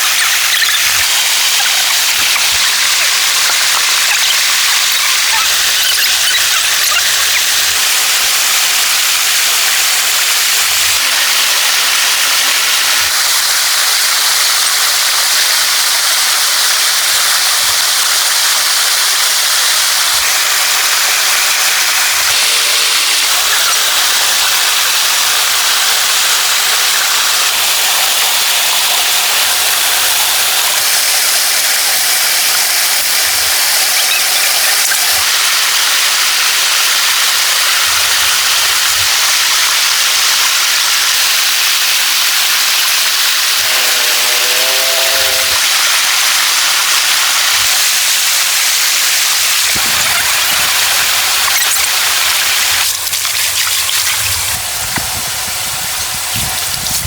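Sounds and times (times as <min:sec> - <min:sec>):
loud steady hiss: 0:00.0 - 0:57.0.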